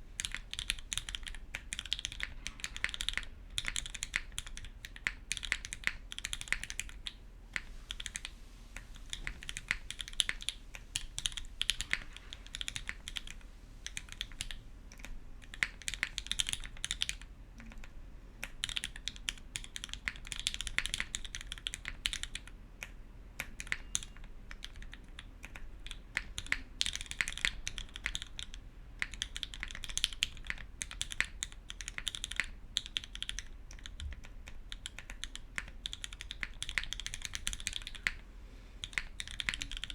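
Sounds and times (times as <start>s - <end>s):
mechanical keyboard typing: 0.2s - 38.2s, 38.8s - 39.9s.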